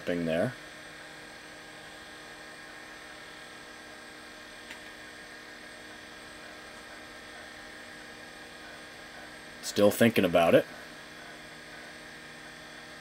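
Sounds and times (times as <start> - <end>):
computer hard drive humming: 0.0 - 13.0.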